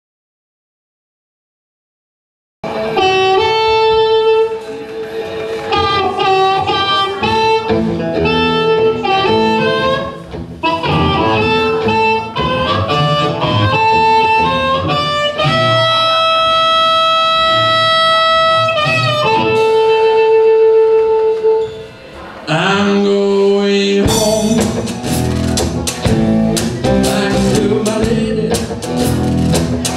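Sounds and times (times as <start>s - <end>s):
low guitar notes: 2.6s - 29.9s
blues harmonica playing: 3.0s - 21.7s, 24.1s - 29.9s.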